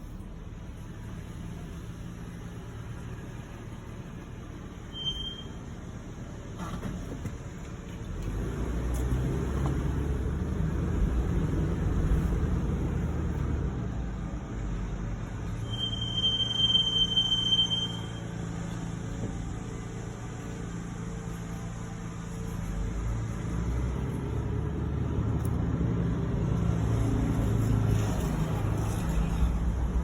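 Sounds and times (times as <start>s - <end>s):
car engine and road rumble: 0.0s - 30.0s
brakes squealing: 1.6s - 25.6s, 26.6s - 30.0s.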